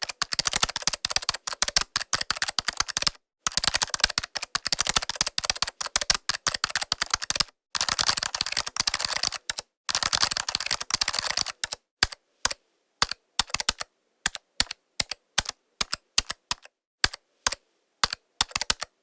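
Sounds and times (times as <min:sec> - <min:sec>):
laptop keyboard typing: 0:00.0 - 0:19.0.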